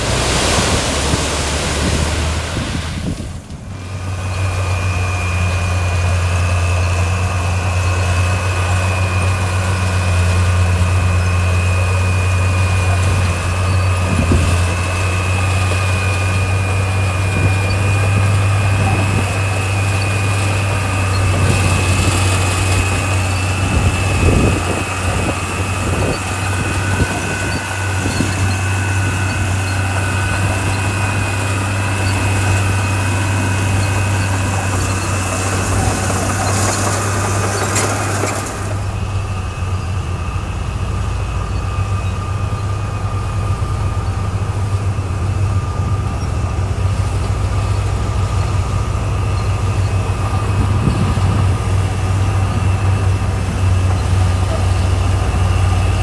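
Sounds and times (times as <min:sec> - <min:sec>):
diesel engine droning: 0:00.0 - 0:56.0
high whine: 0:00.0 - 0:56.0.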